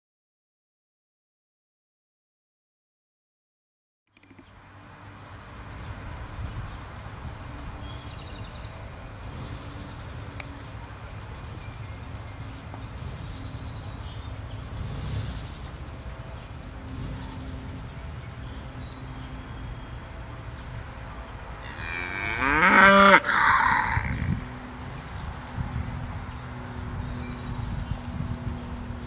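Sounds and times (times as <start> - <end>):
insect trill: 4.2 - 29.0.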